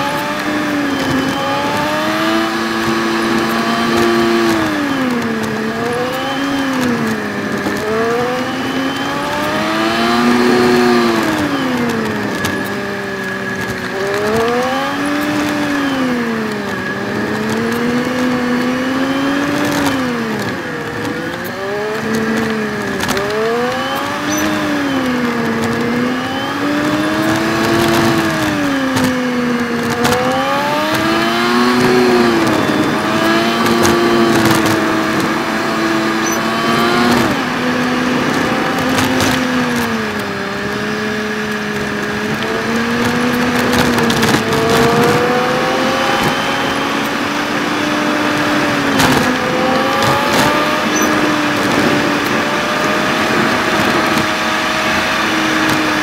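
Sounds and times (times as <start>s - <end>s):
sped-up car engine revving: 0.0s - 56.0s
steady high whine: 0.0s - 56.0s.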